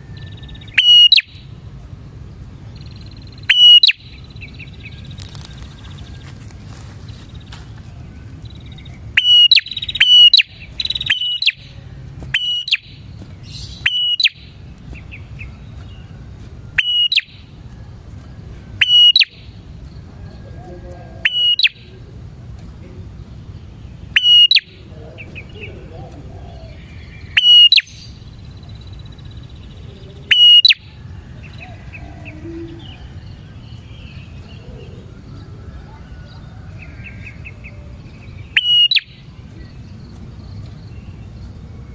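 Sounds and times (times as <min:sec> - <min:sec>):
bird chirping: 0:00.0 - 0:41.9
steady low hum: 0:00.0 - 0:41.9.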